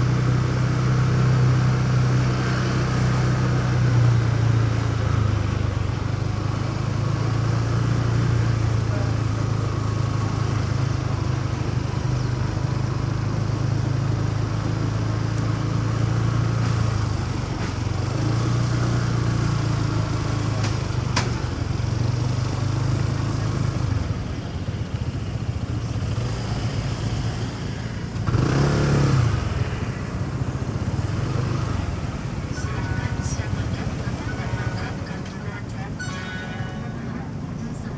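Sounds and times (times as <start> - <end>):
motorcycle engine running: 0.0 - 37.9
street noise: 0.0 - 37.9.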